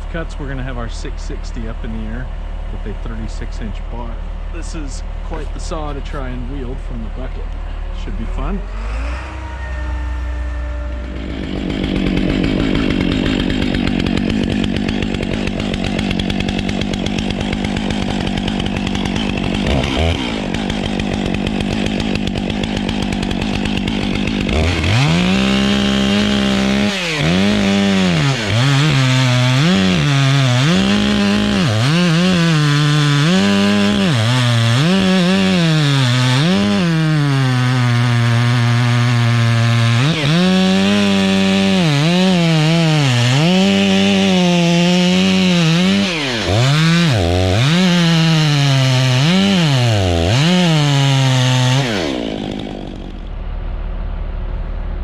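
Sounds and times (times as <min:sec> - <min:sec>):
chainsaw revving: 0:00.0 - 0:53.3.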